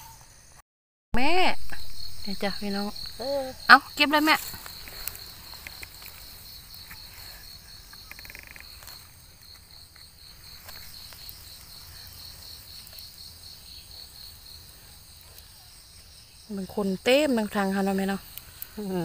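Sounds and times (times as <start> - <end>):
insect chirping: 0.0 - 0.6, 1.2 - 19.0.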